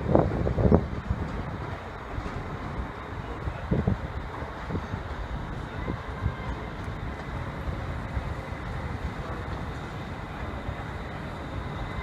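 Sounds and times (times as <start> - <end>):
train rumble and hiss: 0.0 - 12.0
faint steady tones: 1.2 - 12.0.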